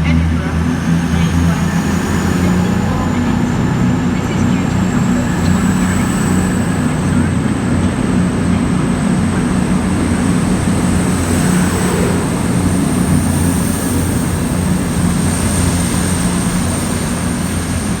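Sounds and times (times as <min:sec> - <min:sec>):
high whine: 0:00.0 - 0:18.0
train diesel engines droning: 0:00.0 - 0:18.0.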